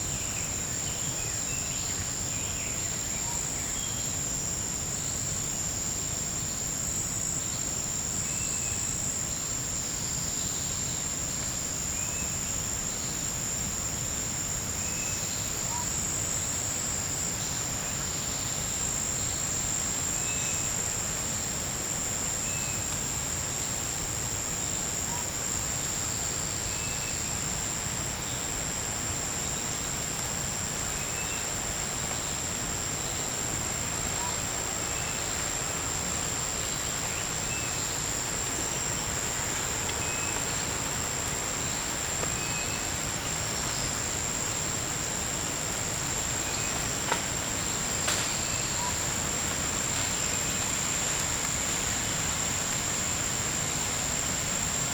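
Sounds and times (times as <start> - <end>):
insects chorus drone: 0.0 - 54.9.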